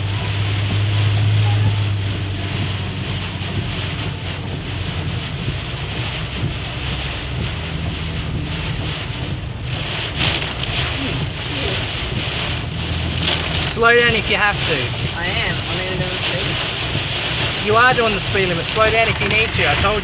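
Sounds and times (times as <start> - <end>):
low drone of engine and tyres: 0.0 - 20.0
road and wind noise hiss: 0.0 - 20.0.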